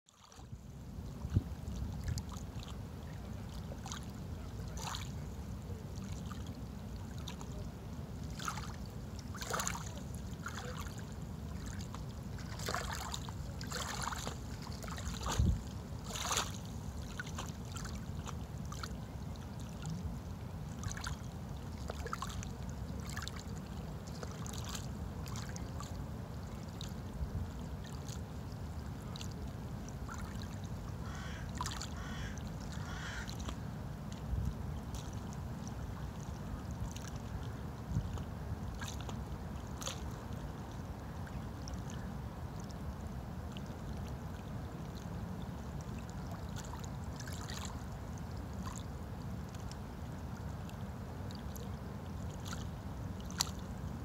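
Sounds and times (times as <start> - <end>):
small water splashes: 0.1 - 54.0
water lapping over pebbles: 0.1 - 54.0.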